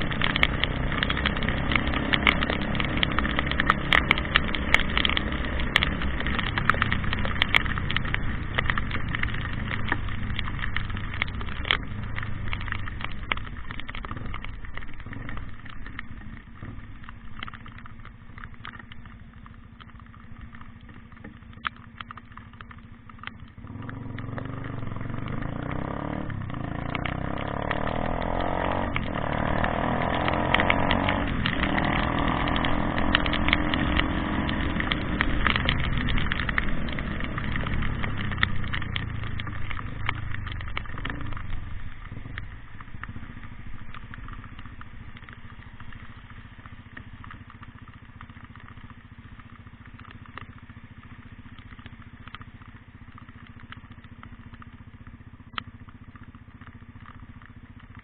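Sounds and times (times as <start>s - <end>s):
sharp crackling clicks: 0.0s - 58.0s
vehicle engine running: 0.0s - 58.0s.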